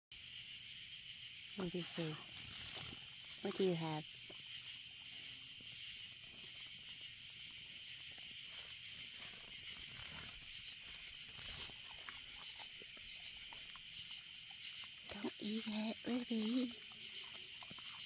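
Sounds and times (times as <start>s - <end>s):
night insects trilling: 0.1s - 18.0s.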